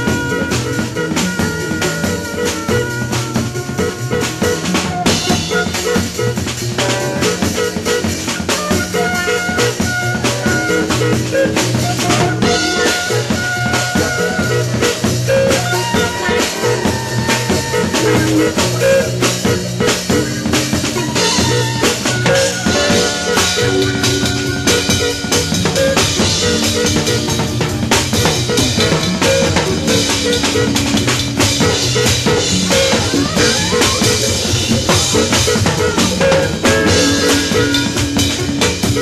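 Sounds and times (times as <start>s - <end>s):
drum kit hits: 0.0s - 39.0s
melodic lines: 0.0s - 39.0s.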